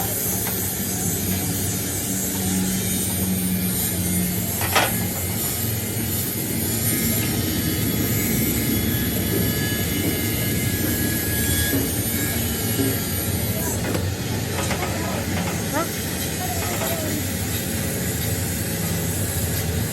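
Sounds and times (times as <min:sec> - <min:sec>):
workshop machinery running: 0:00.0 - 0:19.9.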